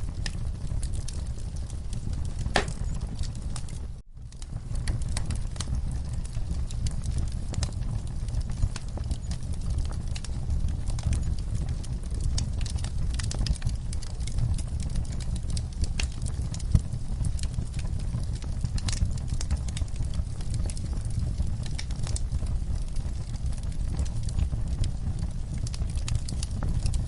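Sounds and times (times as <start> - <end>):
fire crackling in fireplace: 0.0 - 27.0.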